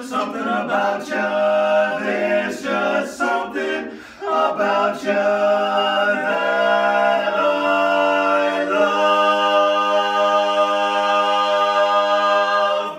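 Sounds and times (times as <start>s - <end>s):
male quartet singing in harmony: 0.0s - 12.9s.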